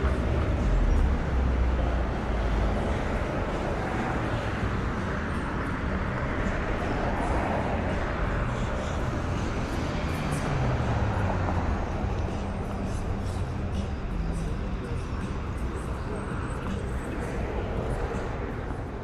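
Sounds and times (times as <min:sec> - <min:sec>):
tyre noise on road: 0:00.0 - 0:19.0
vehicle engines running: 0:00.0 - 0:19.0.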